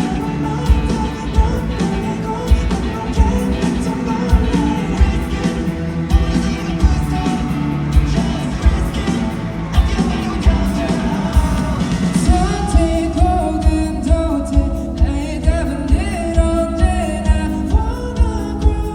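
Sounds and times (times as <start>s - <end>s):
heavy drum beat: 0.0s - 18.9s
live rock band playing: 0.0s - 18.9s
man singing: 0.0s - 18.9s.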